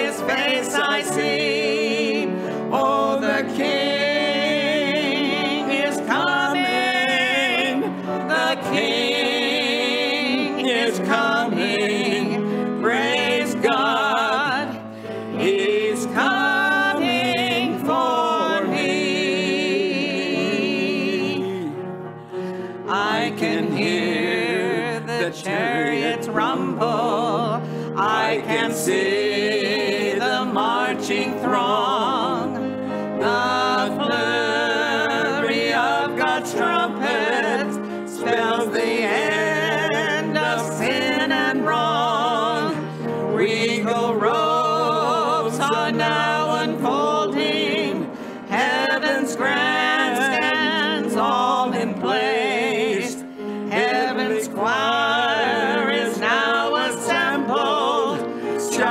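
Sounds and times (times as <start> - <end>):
woman and man singing gospel: 0.0 - 21.8, 22.4 - 58.9.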